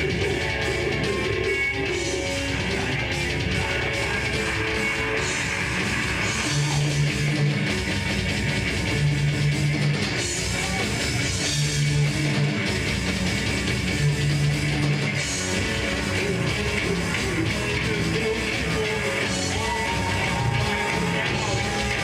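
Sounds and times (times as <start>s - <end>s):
distorted electric guitars: 0.0s - 22.0s
drum kit: 0.0s - 22.0s.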